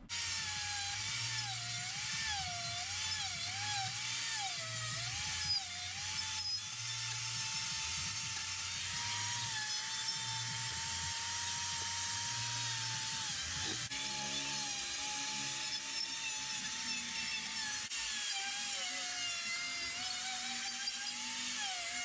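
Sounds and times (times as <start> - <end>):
die grinder cutting wood: 0.0 - 22.0.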